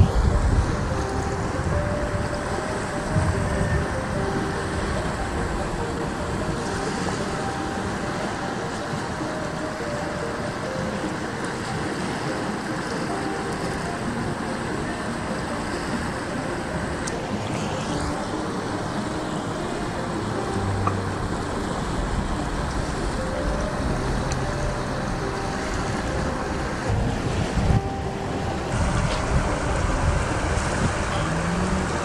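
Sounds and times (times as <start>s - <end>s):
flowing river water: 0.0s - 32.0s
wind: 0.0s - 32.0s.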